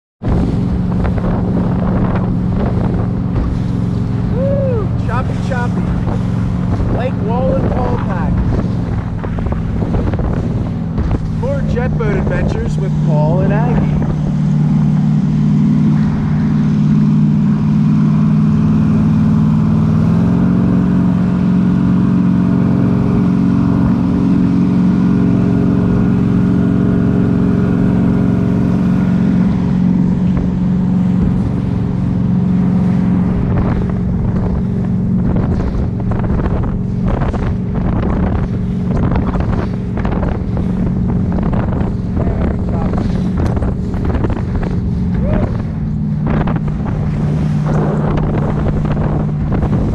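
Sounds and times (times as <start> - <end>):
boat engine running: 0.2 - 49.9
water jet rushing: 0.2 - 49.9.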